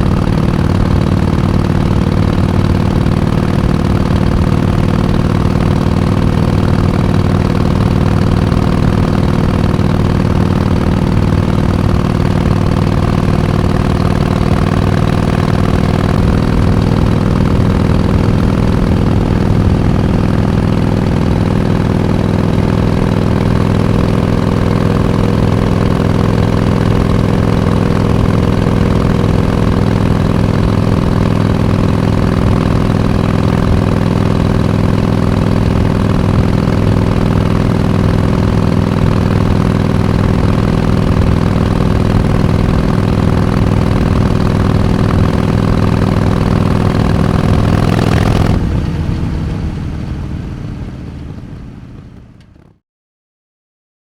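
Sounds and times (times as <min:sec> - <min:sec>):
motorcycle engine idling: 0:00.0 - 0:52.7.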